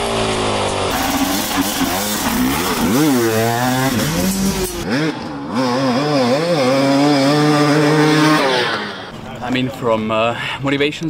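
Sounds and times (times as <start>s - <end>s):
motorcycle revving hard: 0.0s - 9.1s.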